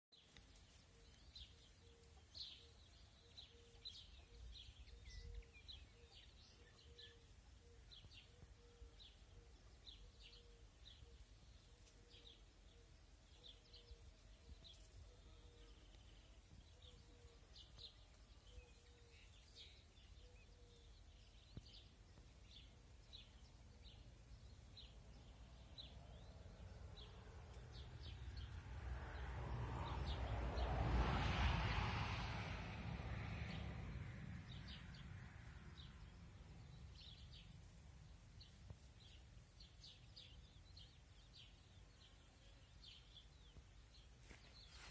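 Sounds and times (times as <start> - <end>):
small birds chirping: 0.1 - 30.7, 33.2 - 44.9.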